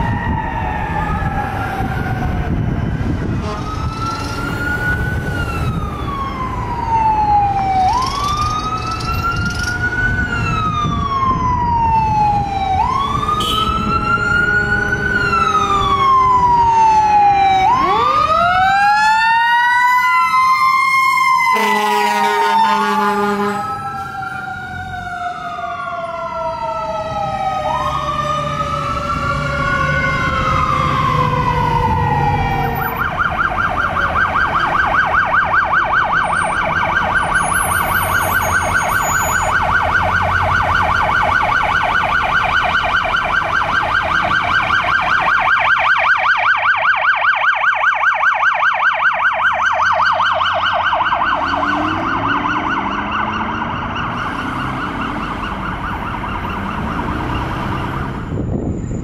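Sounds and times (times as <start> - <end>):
emergency vehicle siren: 0.0 - 59.0.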